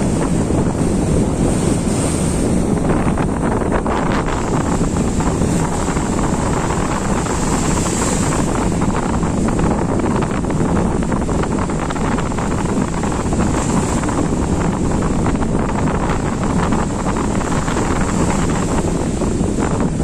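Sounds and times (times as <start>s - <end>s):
sea surf breaking: 0.0s - 20.0s
wind buffeting microphone: 0.0s - 20.0s.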